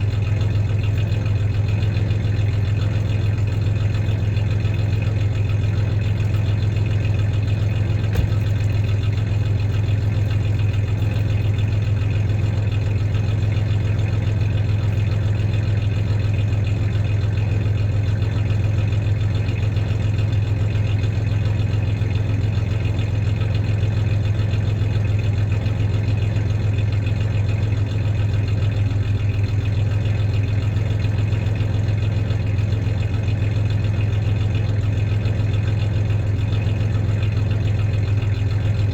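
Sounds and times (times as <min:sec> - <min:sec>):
truck engine idling with misfire: 0:00.0 - 0:38.9.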